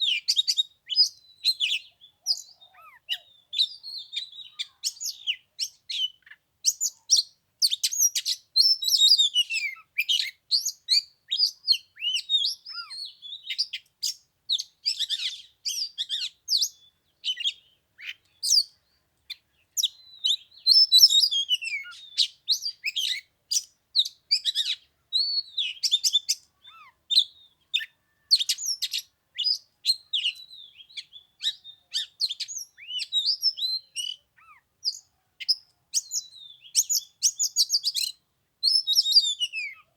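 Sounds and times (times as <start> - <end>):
bird singing with whistles and chirps: 0.0 - 39.9.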